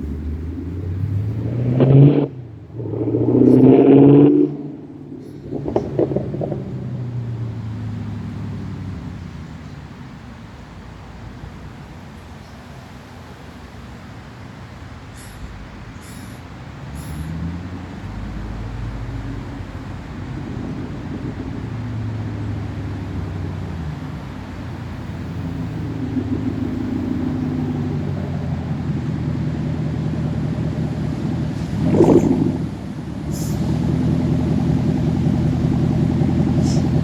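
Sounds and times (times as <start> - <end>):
vee eight engine through open exhaust: 0.0 - 37.0.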